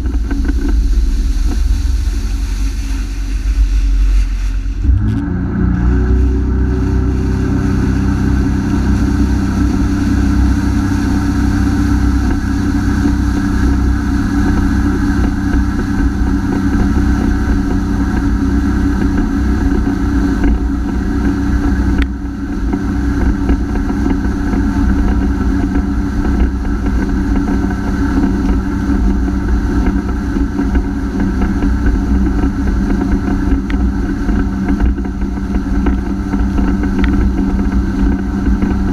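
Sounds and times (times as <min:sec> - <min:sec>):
jet ski engine running: 0:00.0 - 0:38.9.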